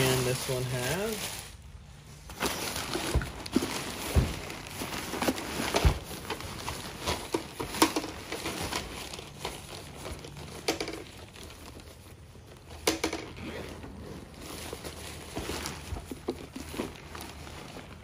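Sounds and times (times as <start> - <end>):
fabric rustling and crinkling: 0.0 - 18.0.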